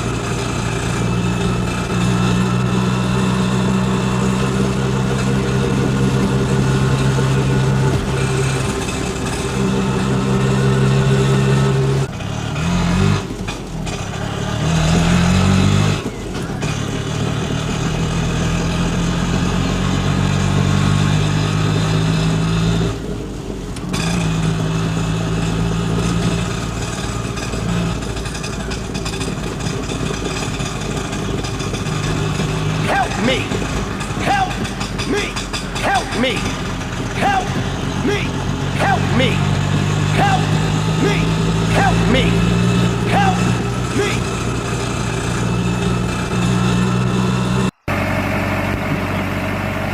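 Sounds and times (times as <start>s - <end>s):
vehicle engine revving: 0.0s - 49.9s.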